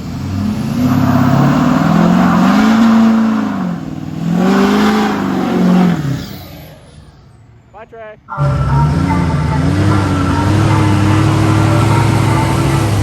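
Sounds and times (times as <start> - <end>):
vehicle engine revving: 0.0 - 7.3, 8.3 - 13.0.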